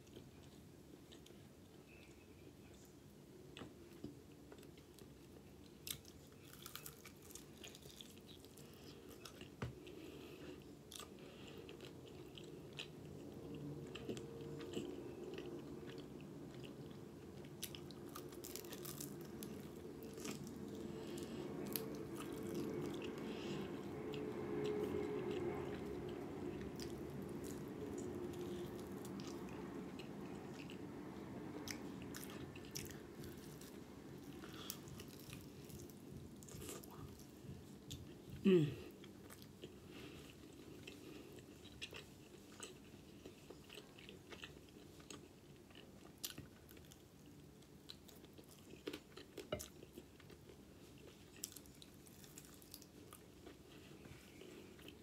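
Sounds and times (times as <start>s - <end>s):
low steady hum: 0.0s - 55.0s
chewing chicken wings: 3.9s - 55.0s.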